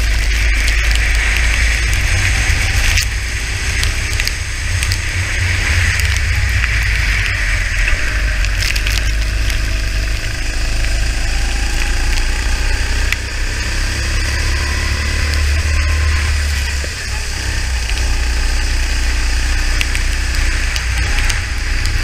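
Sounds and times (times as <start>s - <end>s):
go-kart engine running: 0.0s - 22.0s
low rumble: 0.0s - 22.0s.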